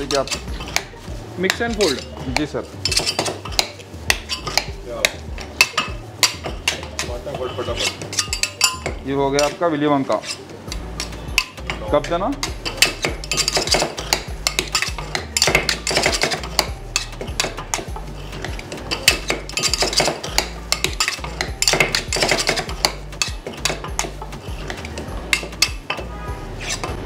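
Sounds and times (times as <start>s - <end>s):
metal spatulas clacking and scraping: 0.0s - 27.0s.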